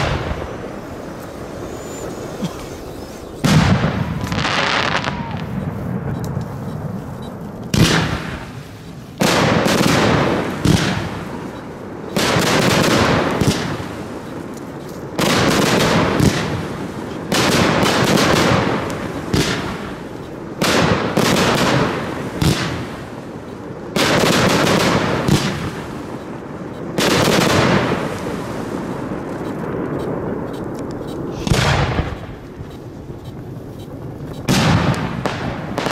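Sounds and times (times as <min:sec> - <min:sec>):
fireworks bursting with sharp bangs: 0:00.0 - 0:35.9
fireworks crackling: 0:00.0 - 0:35.9.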